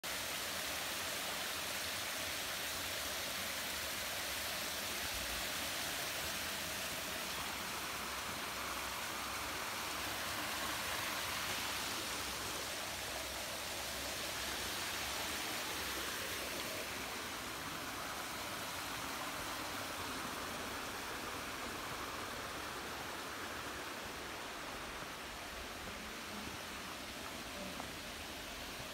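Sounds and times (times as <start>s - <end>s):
stream water rushing over rocks: 0.0s - 28.9s.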